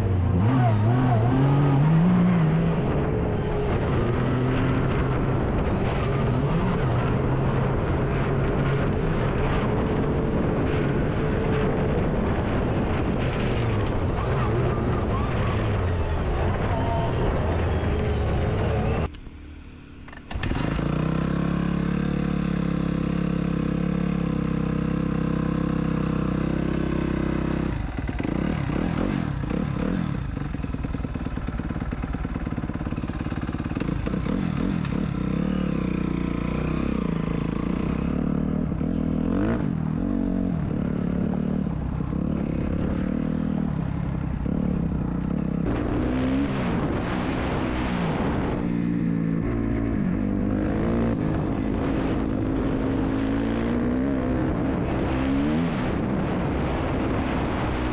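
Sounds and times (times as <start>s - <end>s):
vehicle engine revving: 0.0s - 19.1s, 20.1s - 57.9s.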